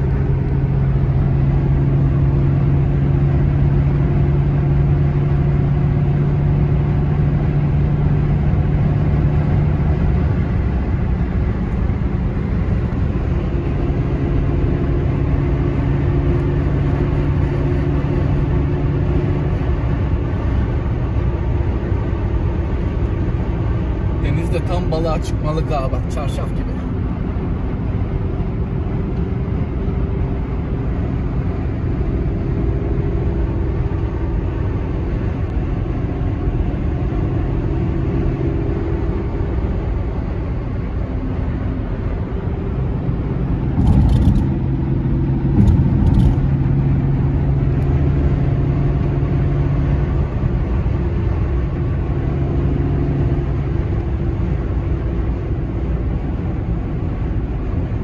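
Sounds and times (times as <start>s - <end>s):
car cabin road hum: 0.0s - 58.0s.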